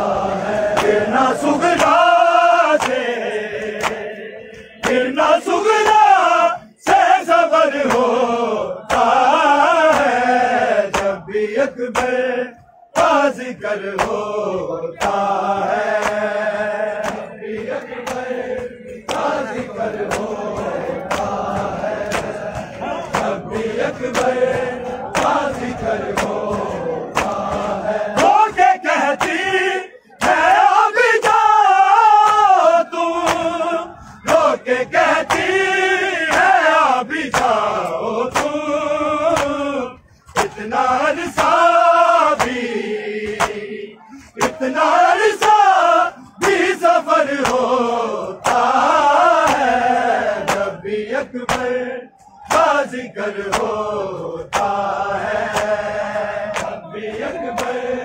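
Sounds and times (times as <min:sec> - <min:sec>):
men chanting in unison: 0:00.0 - 0:58.0
rhythmic chest slapping: 0:00.0 - 0:58.0.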